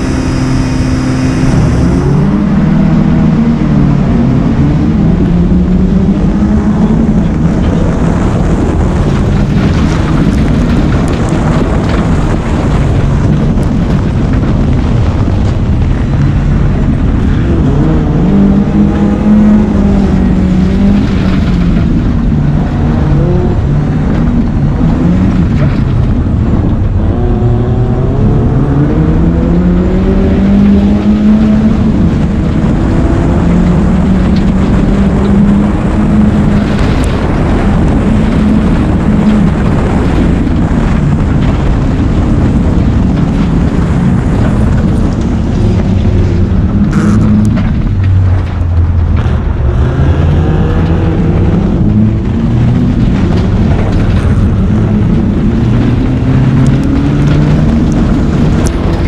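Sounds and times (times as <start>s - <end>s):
rally car engine under throttle: 0.0s - 59.0s.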